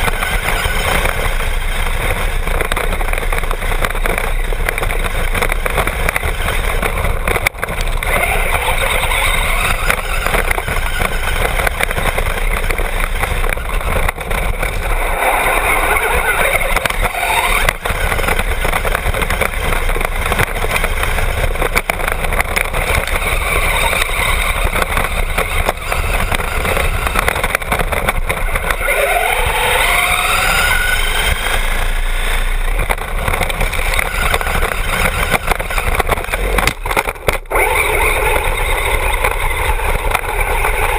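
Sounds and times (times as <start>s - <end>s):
rc car motor whine: 0.0s - 40.9s
tyre gravel and chassis rattle: 0.0s - 40.9s.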